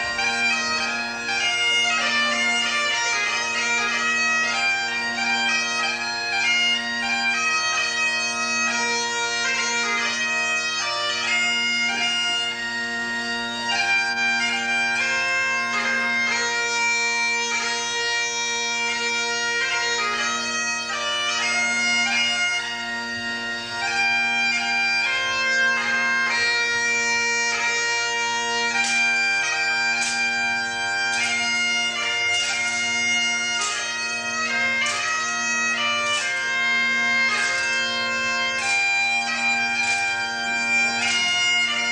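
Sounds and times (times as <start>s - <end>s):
bagpipes playing dance tune: 0.0s - 41.9s.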